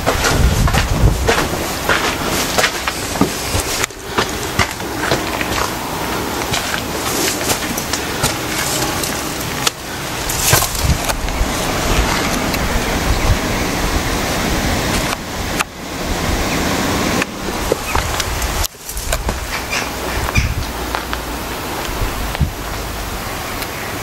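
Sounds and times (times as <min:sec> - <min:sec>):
wind buffeting microphone: 0:00.0 - 0:23.6.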